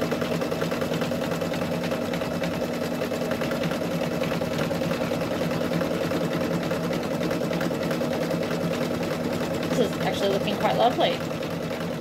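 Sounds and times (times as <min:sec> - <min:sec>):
embroidery machine stitching: 0:00.0 - 0:12.0.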